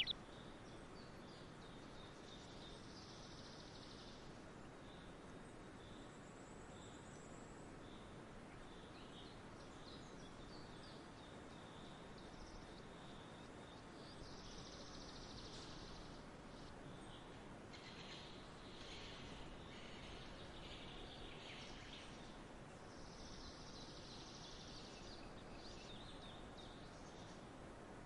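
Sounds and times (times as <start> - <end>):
small birds chirping: 0.0 - 5.1, 5.8 - 27.5
soft background hiss: 0.0 - 28.0.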